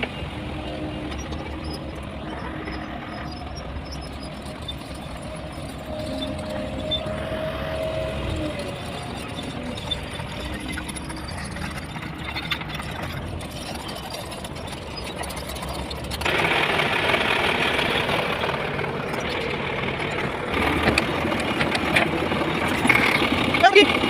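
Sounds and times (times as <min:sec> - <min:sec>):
diesel engine of heavy machinery: 0:00.0 - 0:24.0.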